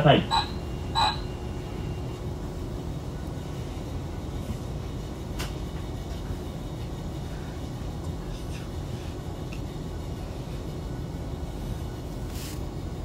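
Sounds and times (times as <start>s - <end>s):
tram motors and wheels rumbling: 0.0s - 13.0s.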